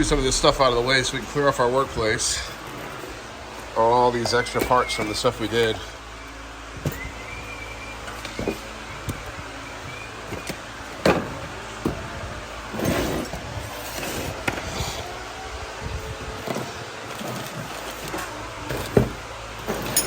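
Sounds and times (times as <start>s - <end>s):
steady shop hum: 0.0s - 20.0s.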